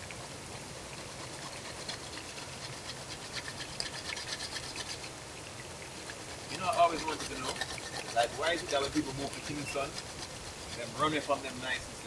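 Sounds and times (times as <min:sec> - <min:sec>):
chocolate rasping on metal grater: 0:01.1 - 0:05.1, 0:06.1 - 0:11.9.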